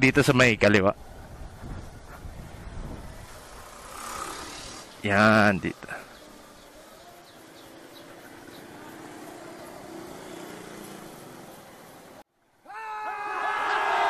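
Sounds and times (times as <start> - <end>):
street and traffic noise: 0.0 - 12.5.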